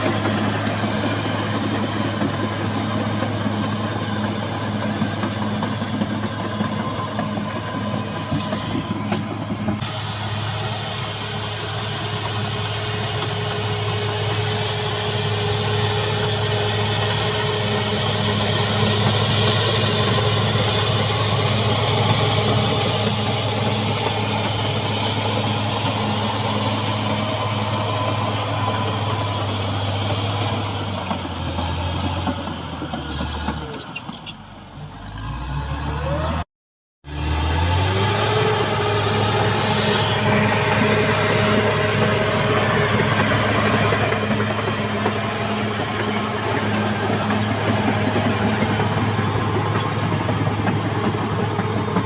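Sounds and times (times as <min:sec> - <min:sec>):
bulldozer diesel engine running: 0:00.0 - 0:36.4, 0:37.1 - 0:52.0.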